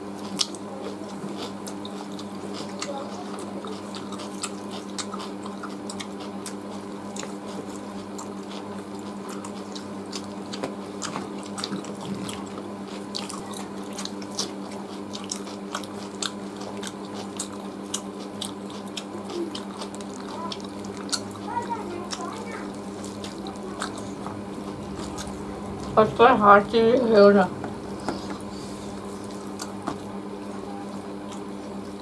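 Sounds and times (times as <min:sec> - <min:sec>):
people chewing and tearing meat: 0:00.0 - 0:26.0, 0:27.5 - 0:32.0
steady low hum: 0:00.0 - 0:32.0.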